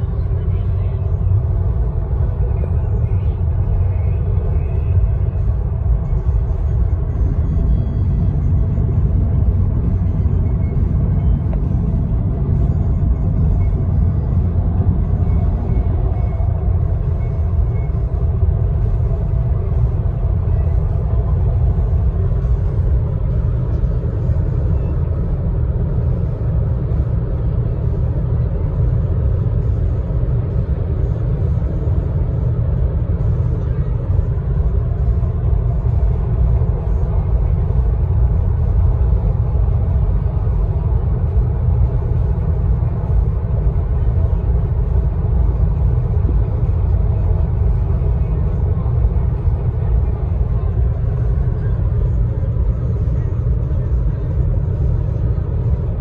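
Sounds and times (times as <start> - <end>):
car interior rumble: 0.0 - 56.0.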